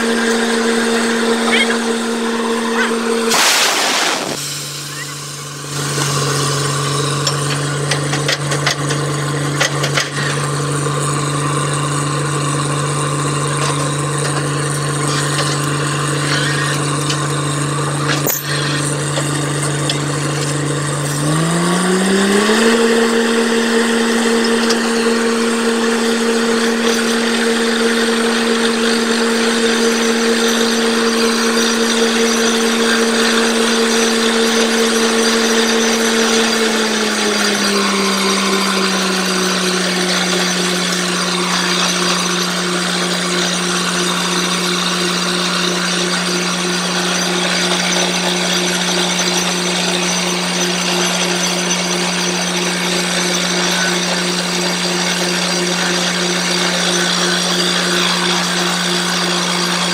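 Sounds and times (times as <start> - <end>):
drilling rig engine running: 0.0 - 59.9.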